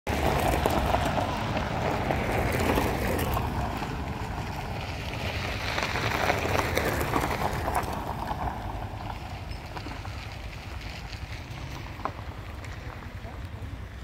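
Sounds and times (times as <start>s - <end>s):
car engine noise: 0.1s - 14.0s
tyres crunching on gravel: 0.1s - 14.0s.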